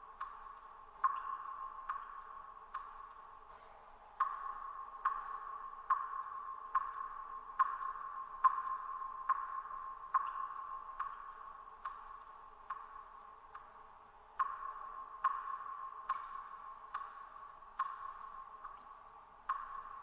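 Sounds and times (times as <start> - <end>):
water drops plinking in a cave: 0.0 - 20.0.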